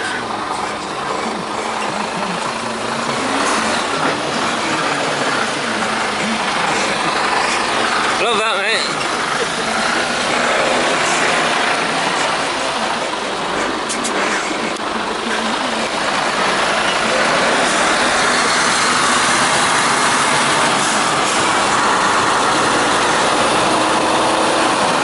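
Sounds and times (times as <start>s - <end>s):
faint voices: 0.0s - 25.0s
truck engine running: 0.0s - 25.0s.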